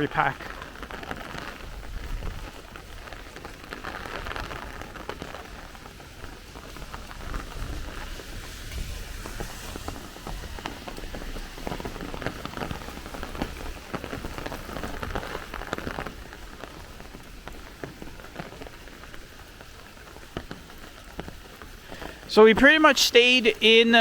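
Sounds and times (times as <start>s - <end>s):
heavy rain falling: 0.0s - 24.0s
raindrops pattering: 0.0s - 24.0s.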